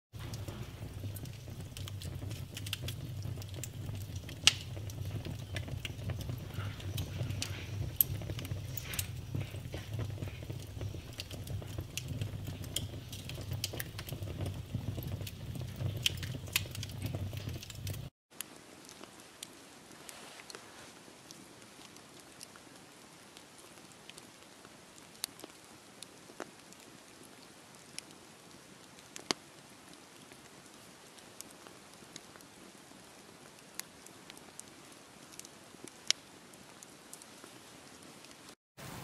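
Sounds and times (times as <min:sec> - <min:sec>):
wood fire crackling and popping: 0:00.1 - 0:19.5, 0:25.0 - 0:39.0.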